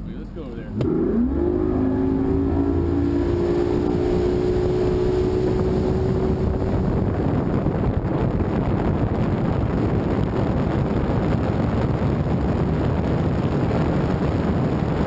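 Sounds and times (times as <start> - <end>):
rush of wind and water: 0.5 - 15.0
outboard motor revving: 0.7 - 15.0.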